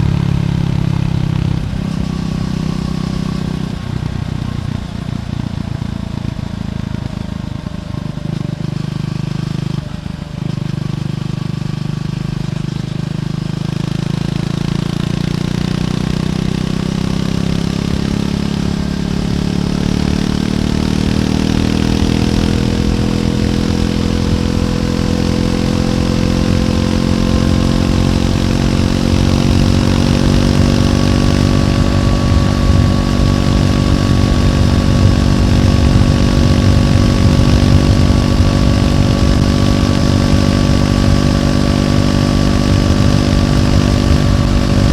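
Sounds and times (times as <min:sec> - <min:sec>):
motorcycle engine pulling: 0:00.0 - 0:44.9.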